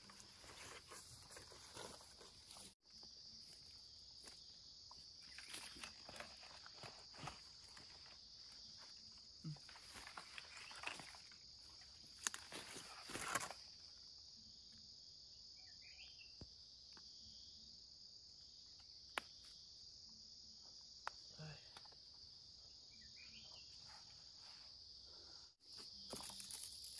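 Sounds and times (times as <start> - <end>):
insects chirring: 0.0 - 26.9.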